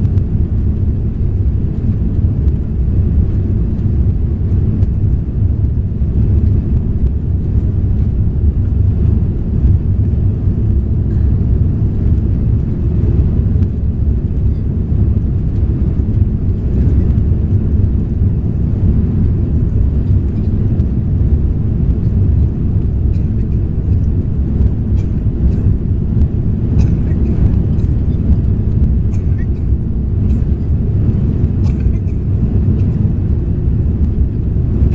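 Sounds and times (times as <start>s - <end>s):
airplane engines in cabin: 0.0s - 34.9s.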